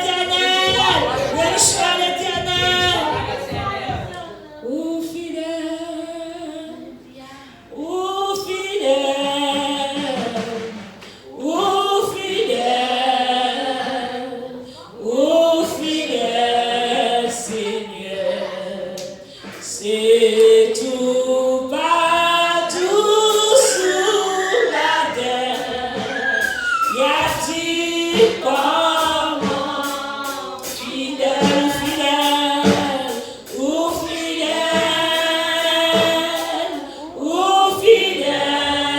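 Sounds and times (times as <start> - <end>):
congregation singing a hymn: 0.0 - 38.9.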